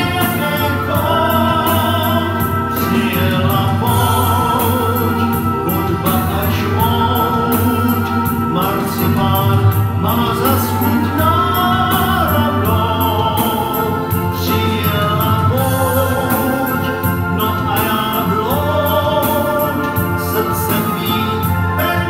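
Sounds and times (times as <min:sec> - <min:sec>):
pop music through speaker: 0:00.0 - 0:22.0.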